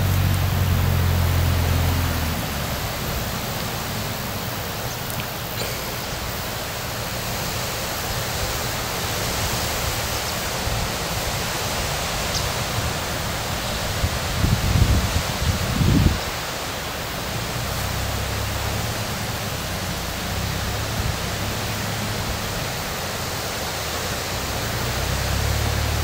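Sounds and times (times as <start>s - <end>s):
tractor engine drone: 0.0s - 26.0s
wind rushing through trees: 0.0s - 26.0s.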